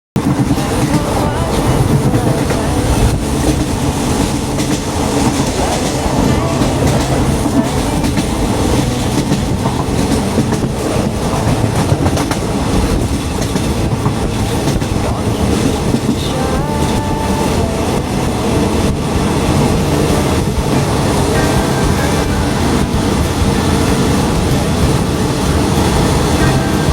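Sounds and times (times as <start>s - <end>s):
train rumbling along track: 0.2s - 26.9s.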